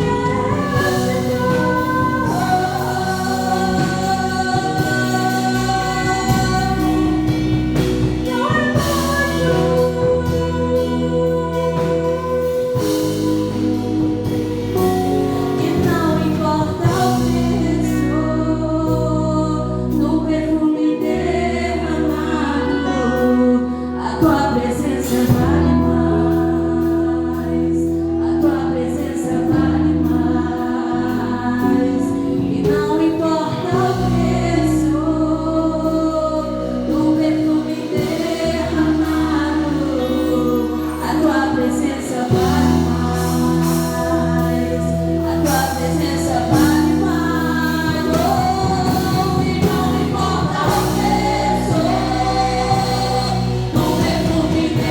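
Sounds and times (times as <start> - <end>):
bass and keyboard chords: 0.0 - 54.9
group singing gospel song: 0.0 - 54.9.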